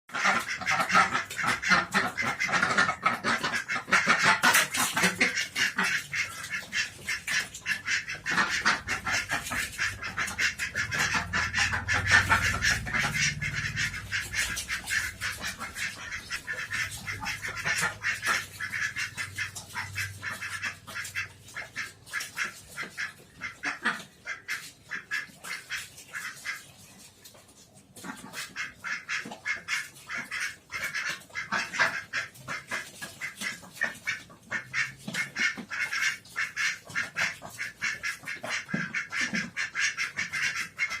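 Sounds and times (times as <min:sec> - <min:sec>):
ducks quacking: 0:00.1 - 0:41.0.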